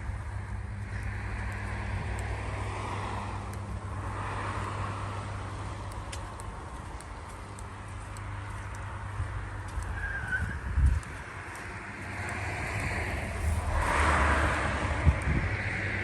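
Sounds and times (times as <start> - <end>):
car passing with tyre noise: 0.0 - 16.0.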